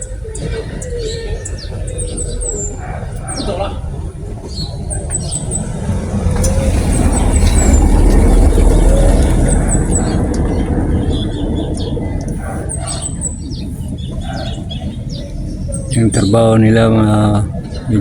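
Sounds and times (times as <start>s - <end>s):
small birds chirping: 0.0s - 18.0s
vehicle passing by: 0.0s - 18.0s.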